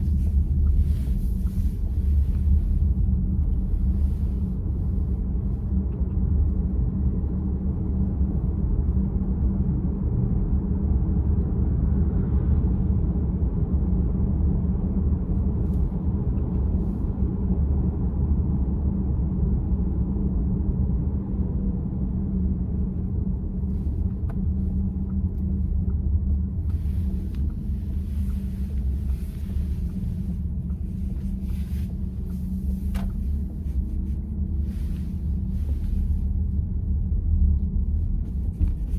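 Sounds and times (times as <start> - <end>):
road and tyre rumble in car: 0.0 - 38.9.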